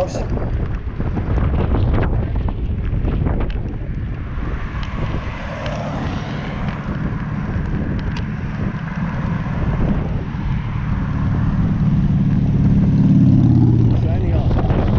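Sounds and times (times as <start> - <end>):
cars passing: 0.0 - 14.9
low engine hum: 0.0 - 14.9
wind rushing over microphone: 0.0 - 14.9.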